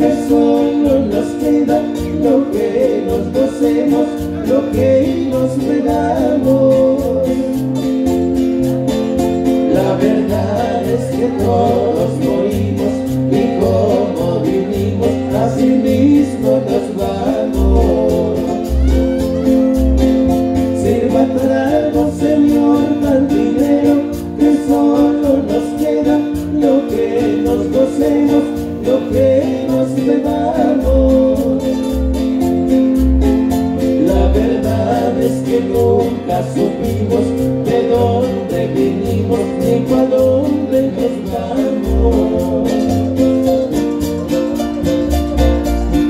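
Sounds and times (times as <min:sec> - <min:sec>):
person singing: 0:00.0 - 0:07.9, 0:09.4 - 0:32.5, 0:33.7 - 0:46.0
acoustic guitars: 0:00.0 - 0:46.0
electric bass: 0:00.0 - 0:46.0.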